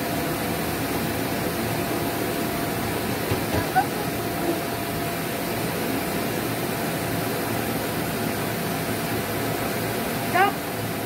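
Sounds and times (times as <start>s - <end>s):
electric air blower running: 0.0s - 11.0s.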